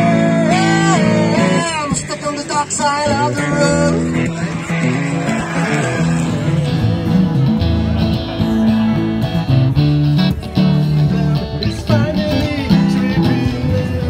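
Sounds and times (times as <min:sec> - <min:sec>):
acoustic guitars playing: 0:00.0 - 0:14.0.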